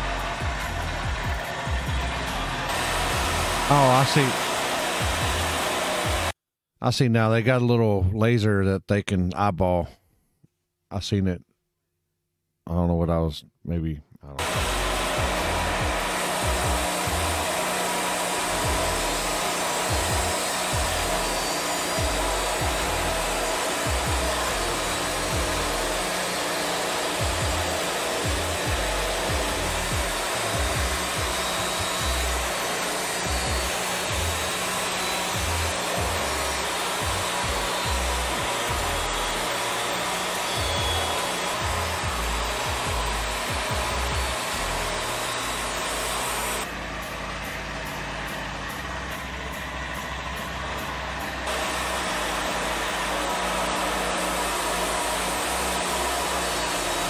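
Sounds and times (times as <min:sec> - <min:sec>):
bandsaw sawmill cutting log: 0:00.0 - 0:06.4, 0:14.4 - 0:57.0.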